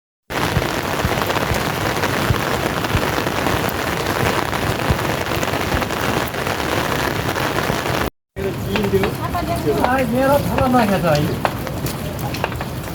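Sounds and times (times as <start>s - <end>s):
heavy rain falling: 0.3s - 12.9s
low thuds of raindrops: 0.3s - 12.9s.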